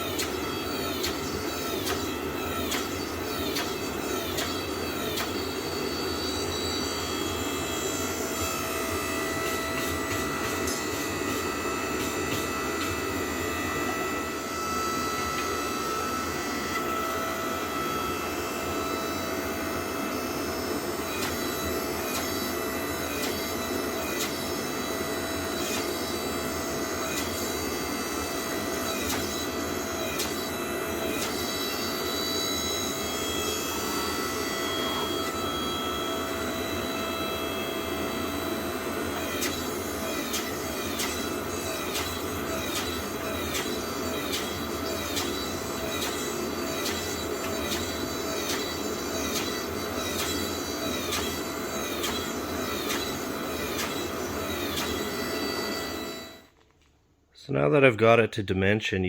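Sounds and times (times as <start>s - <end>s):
forging press machine drone: 0.0s - 56.7s.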